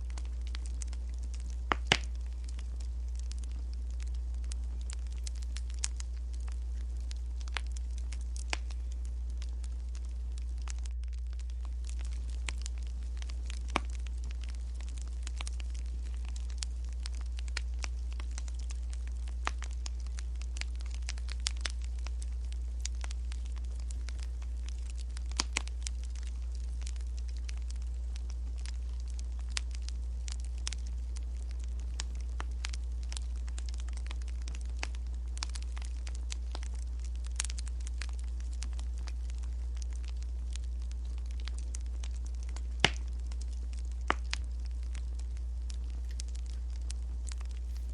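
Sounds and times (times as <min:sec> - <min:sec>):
firewood crackling: 0:00.0 - 0:47.9
low hum: 0:00.0 - 0:47.9.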